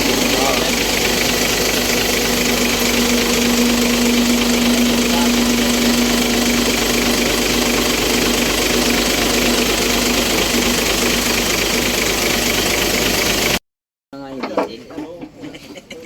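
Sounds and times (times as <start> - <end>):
diesel truck engine clattering: 0.0 - 13.6.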